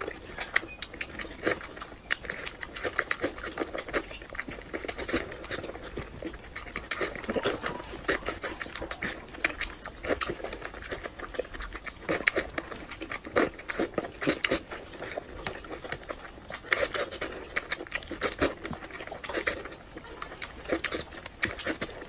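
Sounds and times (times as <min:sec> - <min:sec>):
person chewing and lip-smacking: 0:00.0 - 0:22.0.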